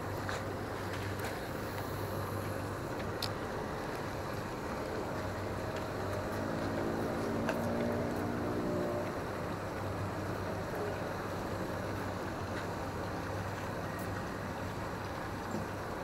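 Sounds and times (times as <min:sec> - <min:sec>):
engine-like drone: 0:00.0 - 0:16.0.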